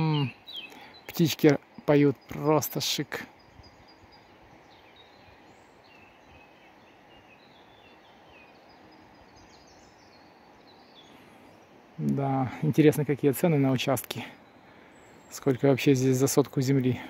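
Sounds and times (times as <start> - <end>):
low outdoor hiss: 0.0 - 17.0
songbirds chirping: 0.0 - 17.0.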